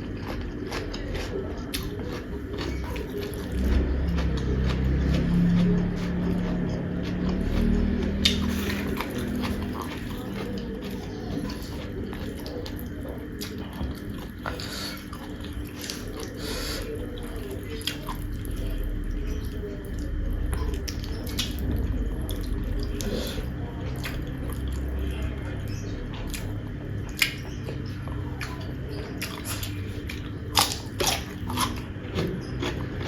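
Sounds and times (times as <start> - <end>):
person chewing wetly: 0.0 - 33.0.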